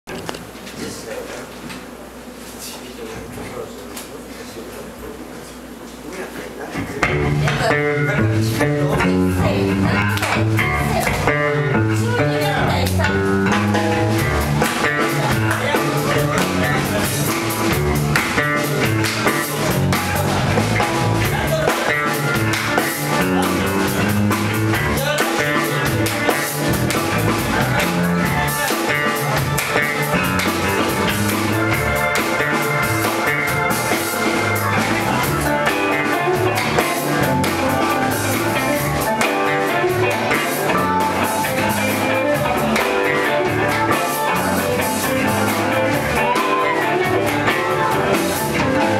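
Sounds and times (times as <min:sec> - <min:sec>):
rock band playing: 0:07.0 - 0:48.9.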